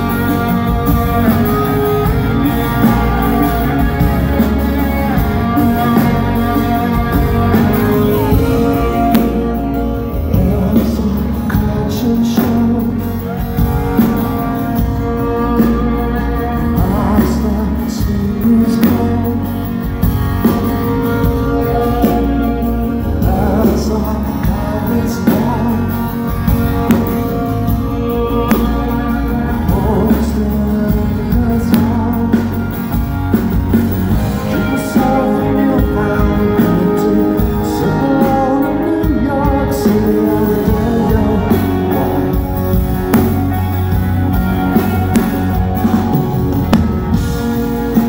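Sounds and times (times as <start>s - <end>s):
electric guitars: 0.0s - 48.0s
lead singer: 0.0s - 48.0s
steady drum beat: 0.0s - 48.0s.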